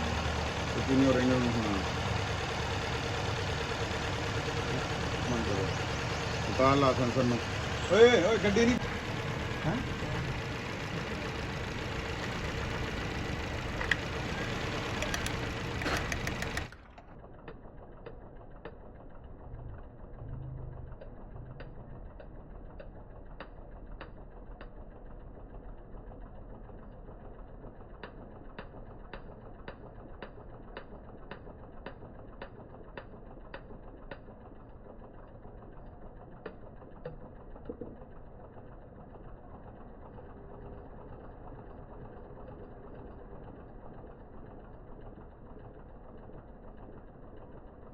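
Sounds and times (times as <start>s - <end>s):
car engine running: 0.0s - 47.9s
engine ticking: 0.0s - 47.9s.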